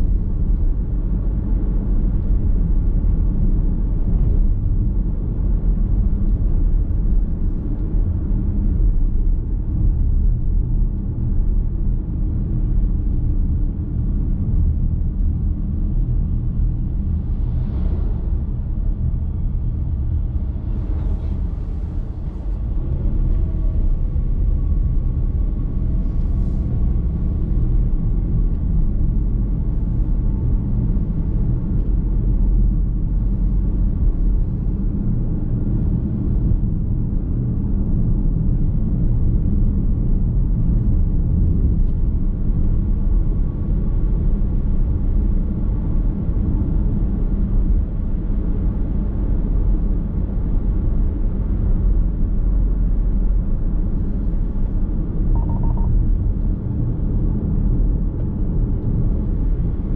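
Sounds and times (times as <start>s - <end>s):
road and tyre noise in car: 0.0s - 59.9s.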